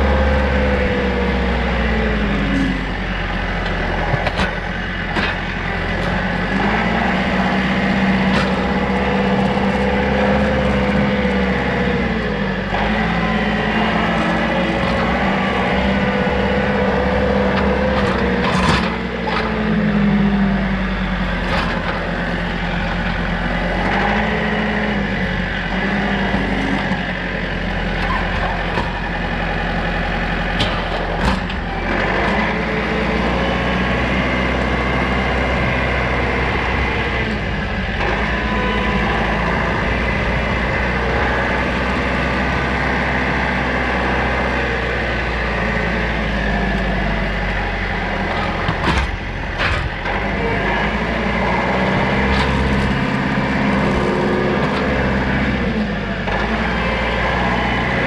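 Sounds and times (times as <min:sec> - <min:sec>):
stump grinder: 0:00.0 - 0:58.0
tractor diesel engine running: 0:00.0 - 0:58.0.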